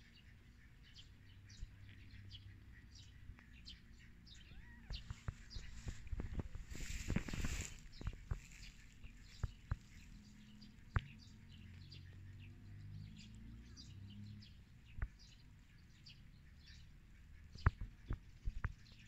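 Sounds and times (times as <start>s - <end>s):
faint birdsong chirps: 0.0s - 19.0s.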